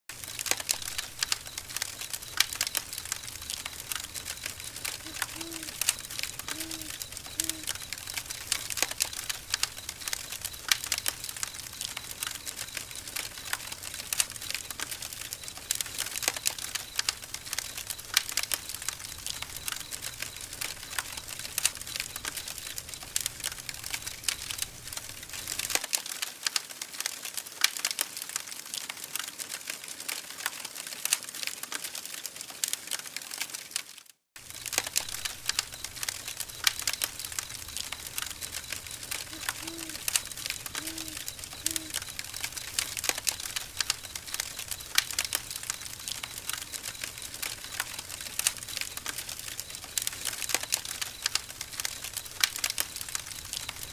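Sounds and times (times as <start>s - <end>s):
campfire crackling and popping: 0.1s - 53.9s.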